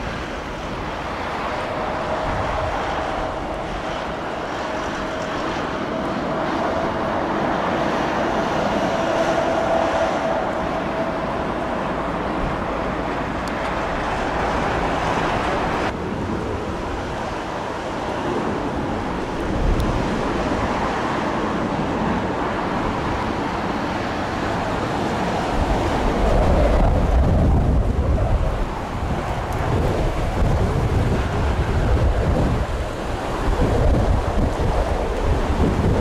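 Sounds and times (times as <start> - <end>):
jet engines running: 0.0 - 36.0
wind on microphone: 0.0 - 36.0.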